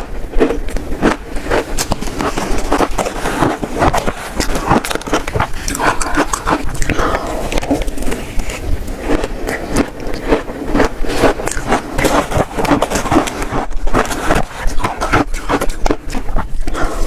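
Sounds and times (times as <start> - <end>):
biting and crunching shaved ice: 0.0 - 17.0.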